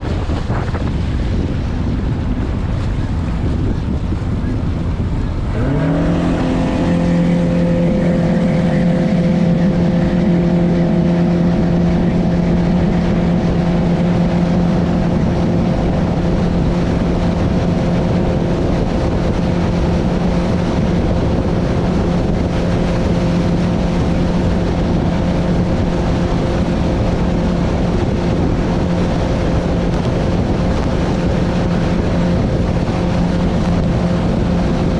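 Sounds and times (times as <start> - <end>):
boat motor droning: 0.0 - 34.9
wind buffeting microphone: 0.0 - 34.9.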